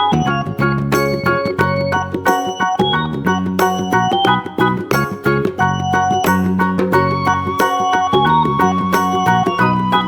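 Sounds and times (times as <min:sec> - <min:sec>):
bouncy keyboard instrumental tune: 0:00.0 - 0:10.0.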